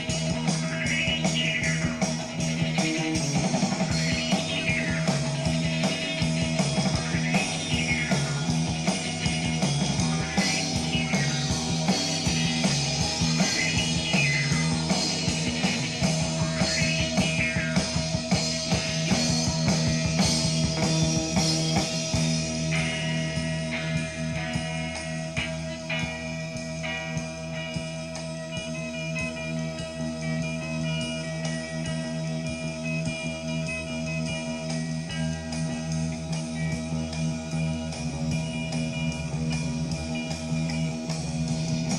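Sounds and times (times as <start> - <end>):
post-punk rock music: 0.0 - 41.9.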